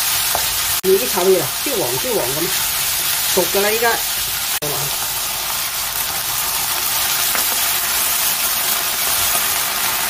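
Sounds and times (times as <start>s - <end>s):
meat sizzling in a wok: 0.0s - 10.0s.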